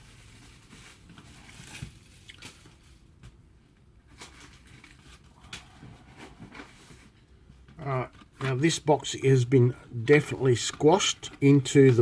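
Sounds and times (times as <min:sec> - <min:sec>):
faint rustling of packaging: 0:00.0 - 0:12.0.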